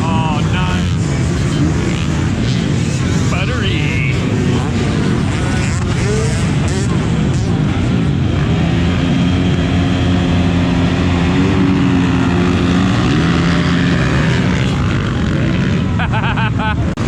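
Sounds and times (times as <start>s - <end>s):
motorcycle engines running hard: 0.0s - 17.0s.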